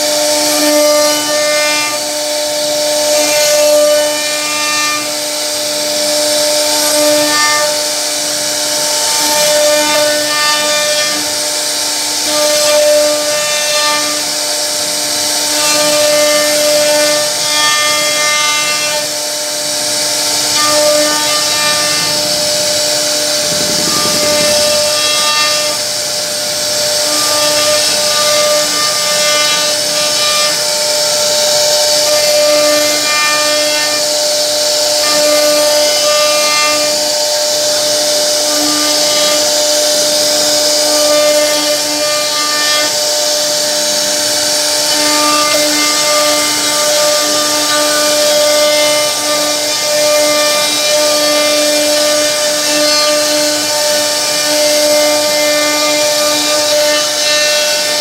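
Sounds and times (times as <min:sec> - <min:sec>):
router spindle whine: 0:00.0 - 0:58.0
bit cutting wood hiss: 0:00.1 - 0:58.0.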